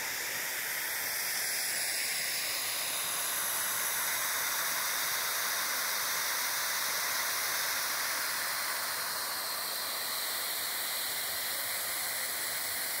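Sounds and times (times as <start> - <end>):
fountain water jets spraying: 0.0 - 13.0.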